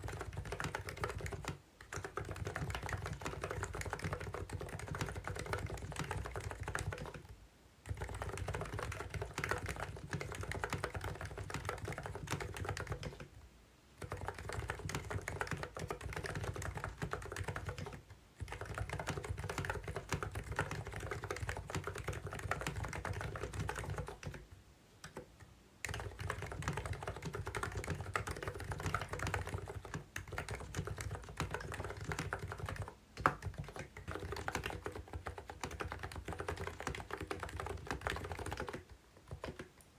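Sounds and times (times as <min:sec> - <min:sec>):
keyboard typing: 0:00.0 - 0:13.3, 0:14.0 - 0:39.9.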